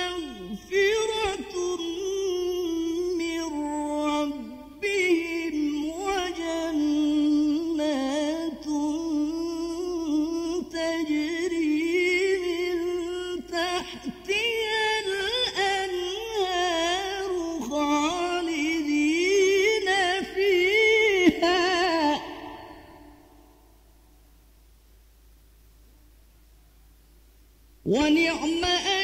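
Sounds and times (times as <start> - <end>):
man reciting melodically: 0.0 - 23.5, 27.8 - 29.0.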